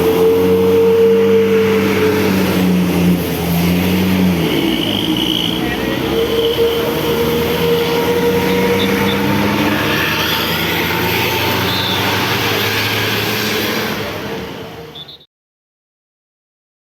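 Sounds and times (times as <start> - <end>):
diesel engine running: 0.0 - 14.2.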